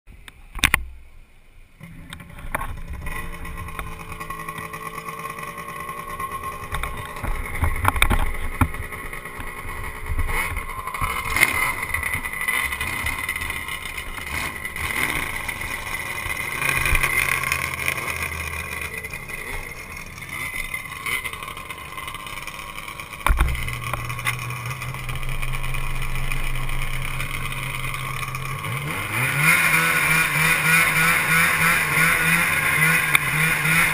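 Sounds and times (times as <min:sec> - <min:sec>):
snowmobile engine running: 0:01.8 - 0:33.9.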